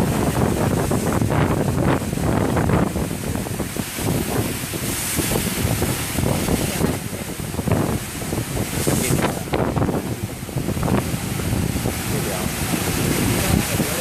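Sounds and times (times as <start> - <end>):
water jets spraying in a machine: 0.0 - 14.0.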